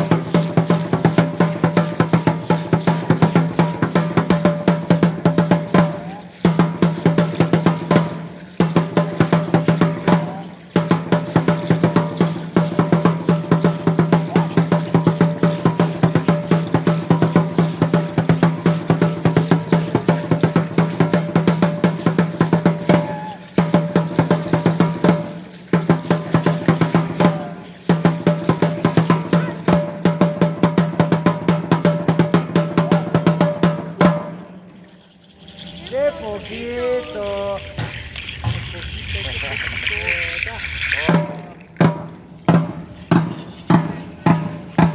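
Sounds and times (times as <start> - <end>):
fast drumming: 0.0 - 44.9.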